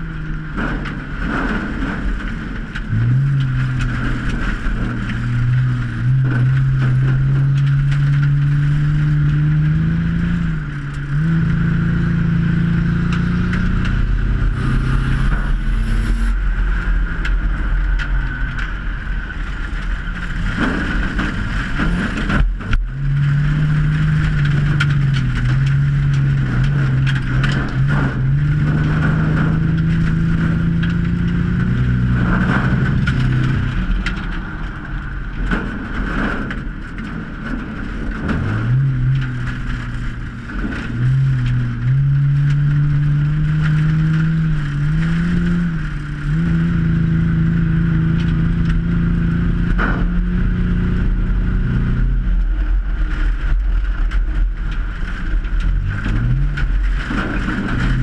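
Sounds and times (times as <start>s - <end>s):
race car engine from inside cabin: 0.0s - 58.0s.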